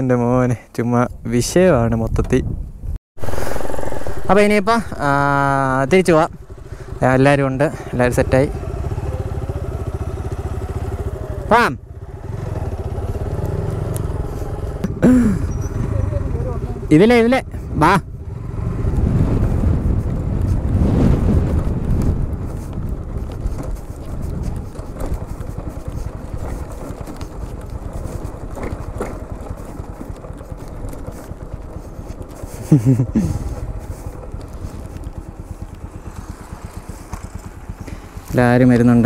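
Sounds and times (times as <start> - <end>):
motorcycle engine running: 3.2 - 39.0.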